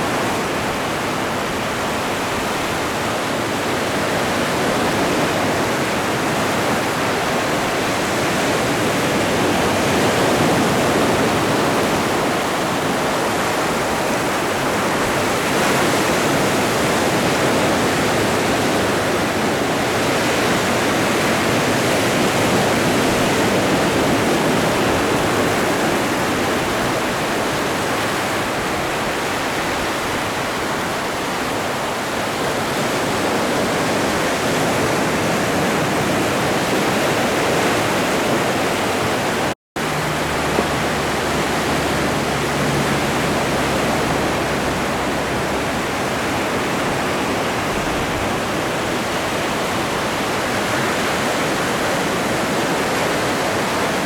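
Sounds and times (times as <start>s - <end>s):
ocean surf breaking waves: 0.0s - 54.0s.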